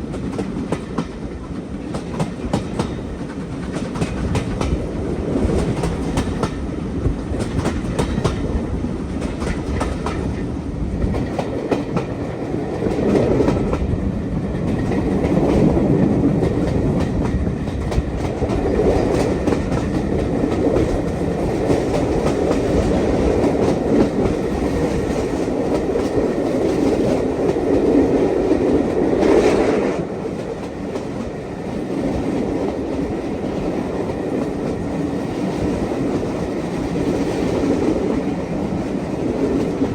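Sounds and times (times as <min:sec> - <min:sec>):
train wheels clicking over rail joints: 0:00.0 - 0:38.2
train rumble: 0:00.0 - 0:39.9.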